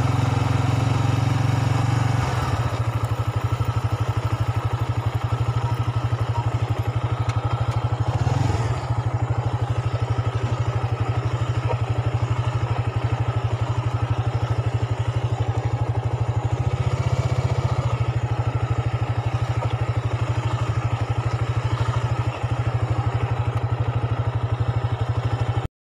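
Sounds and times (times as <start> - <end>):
motorcycle engine idling: 0.0 - 25.7.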